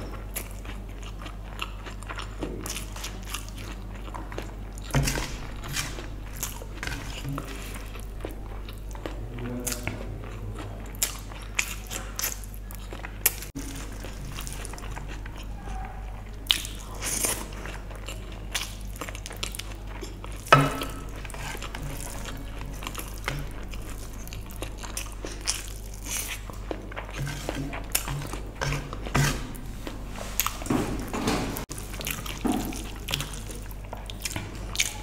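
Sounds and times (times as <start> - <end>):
wet chewing and lip-smacking: 0.0 - 30.7, 31.6 - 35.0
steady low hum: 0.0 - 35.0.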